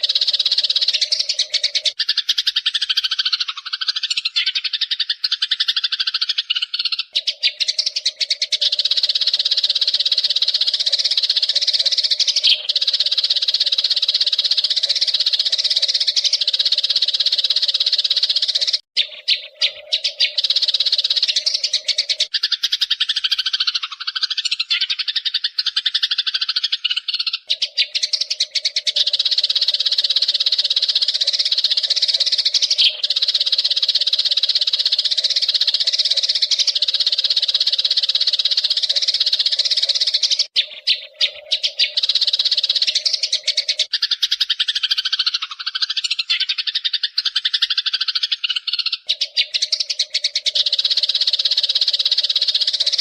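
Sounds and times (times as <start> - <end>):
sparrows chattering and chirping: 0.0 - 53.0.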